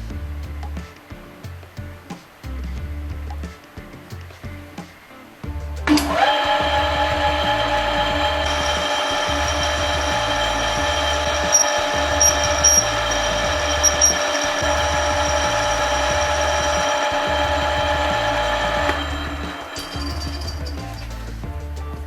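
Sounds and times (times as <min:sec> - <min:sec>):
background music with bass line: 0:00.0 - 0:22.0.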